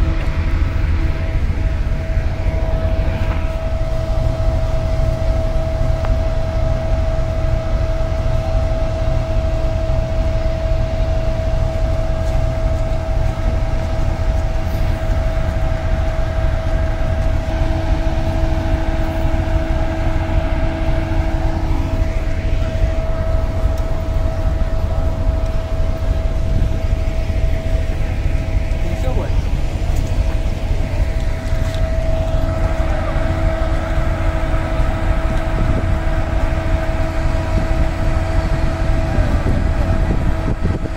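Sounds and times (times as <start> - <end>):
constant high whine: 0.0 - 40.9
locomotive engine rumble: 0.0 - 40.9.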